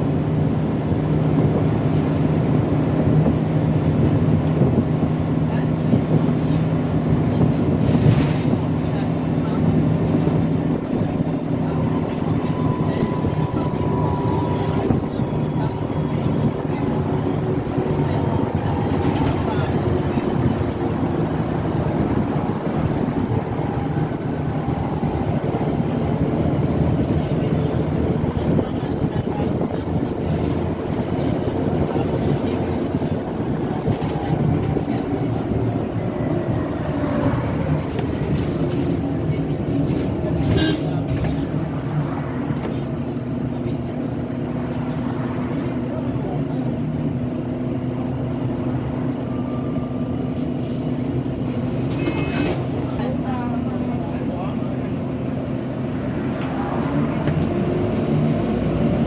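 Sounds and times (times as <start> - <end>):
bus diesel engine: 0.0 - 59.0
road noise: 0.0 - 59.0.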